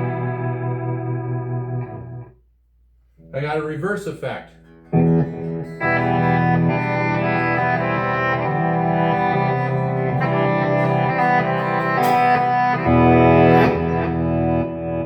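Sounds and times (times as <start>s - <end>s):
electric guitar chords: 0.0s - 2.3s, 4.6s - 15.0s.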